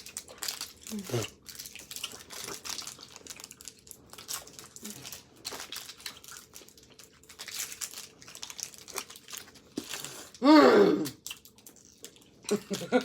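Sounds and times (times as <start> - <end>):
candy wrappers crinkling: 0.0 - 10.4, 11.2 - 13.0.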